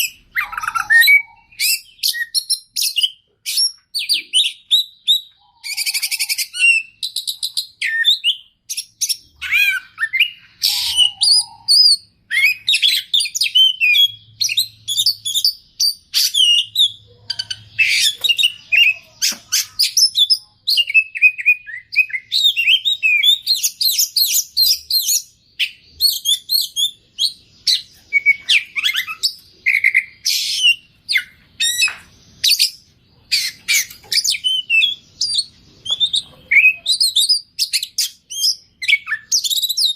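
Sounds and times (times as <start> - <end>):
songbird whistling and trilling: 0.0 - 39.9.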